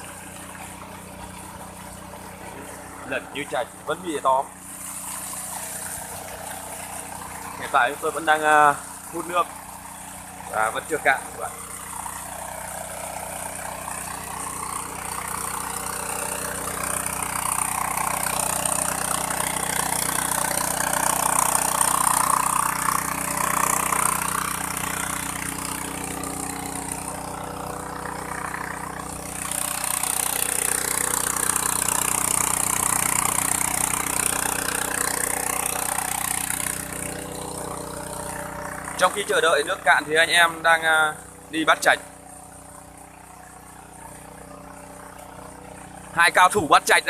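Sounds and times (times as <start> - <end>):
water gushing from hose: 0.0 - 47.0
water pump engine running: 0.0 - 47.0.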